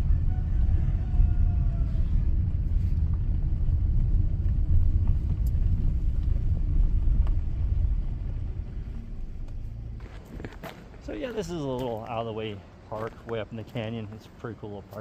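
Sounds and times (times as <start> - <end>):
car tyres rumbling on gravel: 0.0 - 15.0.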